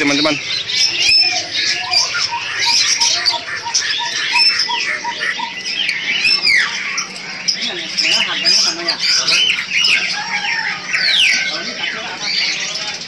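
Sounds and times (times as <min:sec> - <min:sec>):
caged birds chirping and squawking: 0:00.0 - 0:13.0.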